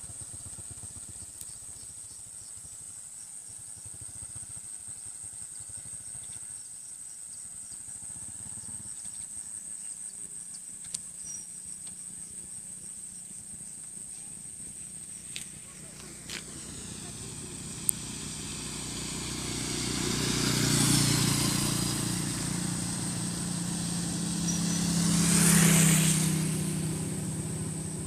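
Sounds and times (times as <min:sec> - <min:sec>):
motorcycle engine throbbing: 0:00.0 - 0:06.3, 0:06.9 - 0:28.0
insects chorus: 0:00.0 - 0:28.0.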